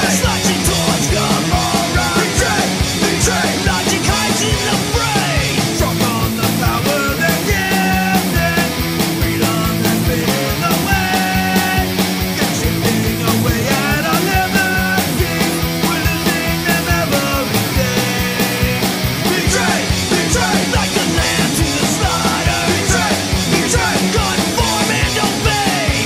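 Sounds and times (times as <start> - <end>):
fast drum beat: 0.0 - 26.0
punk rock band playing: 0.0 - 26.0.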